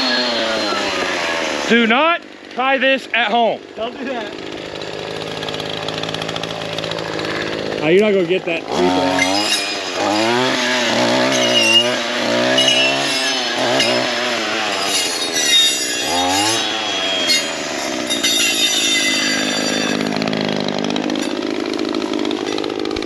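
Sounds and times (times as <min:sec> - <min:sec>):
saw blade cutting brush: 0:00.0 - 0:02.6, 0:03.8 - 0:23.0
weed eater engine revving: 0:00.0 - 0:23.0.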